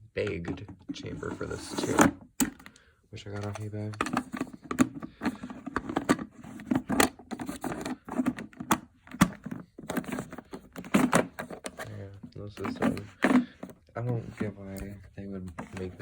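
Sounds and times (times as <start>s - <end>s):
plastic parts clicking and knocking: 1.8s - 16.0s.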